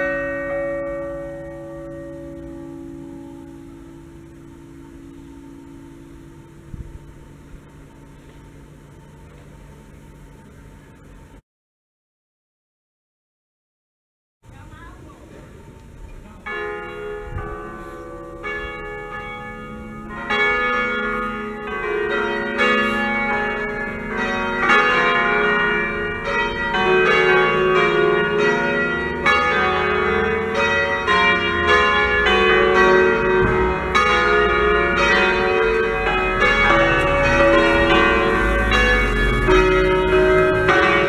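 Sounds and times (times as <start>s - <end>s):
church bells pealing: 0.0s - 11.4s, 14.9s - 41.0s.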